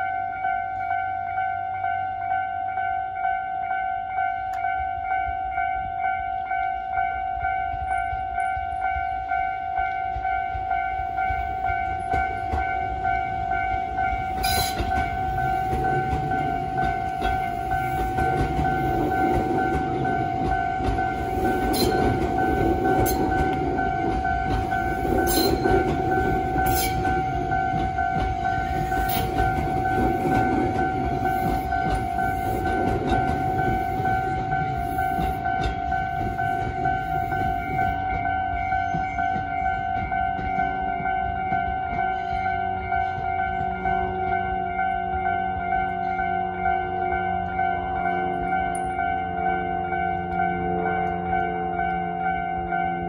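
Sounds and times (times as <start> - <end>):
electric train rumbling past: 0.0 - 53.0
train wheels clicking: 6.5 - 53.0.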